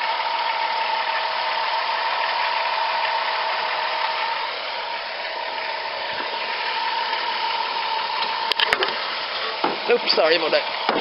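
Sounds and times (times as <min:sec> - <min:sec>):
accessory drive whine: 0:00.0 - 0:11.0
van engine idling: 0:00.0 - 0:11.0.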